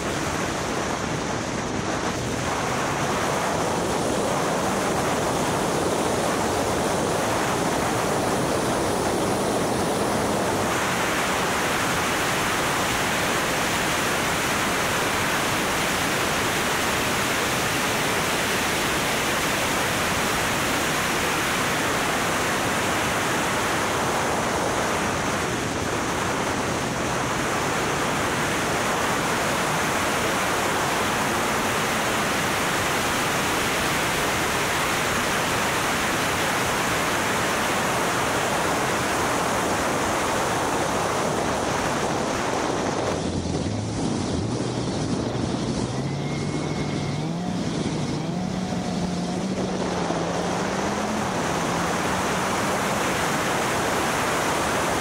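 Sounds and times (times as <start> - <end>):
car road noise: 0.0 - 55.0
wind rushing over microphone: 0.0 - 55.0.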